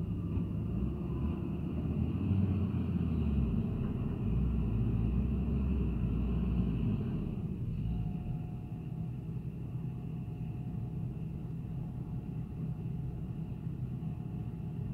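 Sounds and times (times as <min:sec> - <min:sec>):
diesel engines rumbling: 0:00.0 - 0:14.9.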